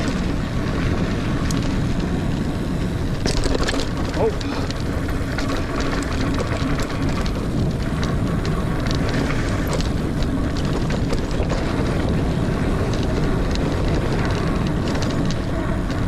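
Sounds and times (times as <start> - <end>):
bike clicks and rattles: 0.0 - 16.0
bike tyres rolling over dirt: 0.0 - 16.0
wind noise on microphone: 0.0 - 16.0.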